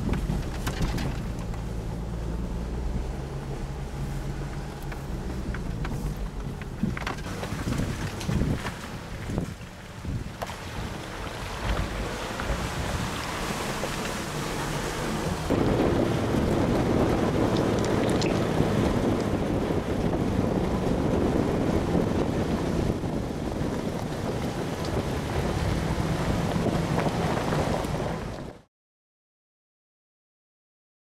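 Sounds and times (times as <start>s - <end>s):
wind buffeting microphone: 0.0s - 28.6s
engine and tyre rumble: 0.0s - 28.7s.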